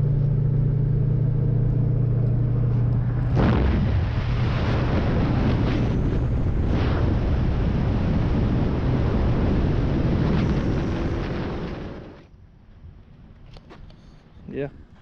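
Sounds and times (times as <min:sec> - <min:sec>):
car exhaust rumble: 0:00.0 - 0:12.3.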